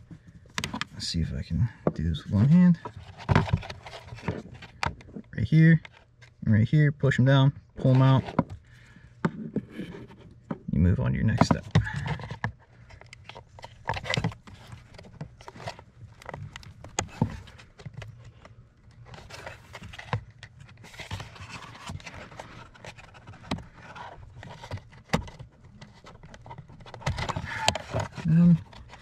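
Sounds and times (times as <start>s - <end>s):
rustling and scraping: 0.0s - 6.4s, 7.7s - 29.0s.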